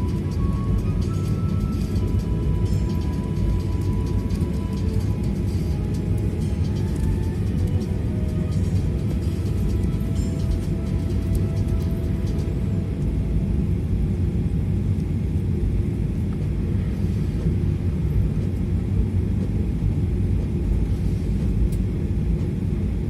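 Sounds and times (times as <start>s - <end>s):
airliner engines rumbling while taxiing: 0.0s - 23.0s.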